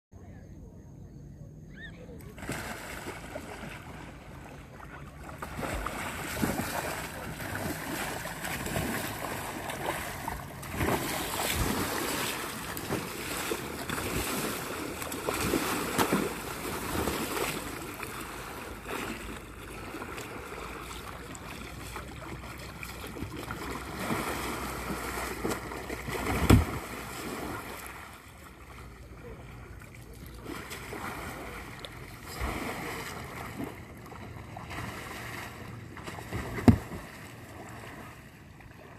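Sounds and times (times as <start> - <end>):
canoe paddle splashing water: 2.2 - 38.9.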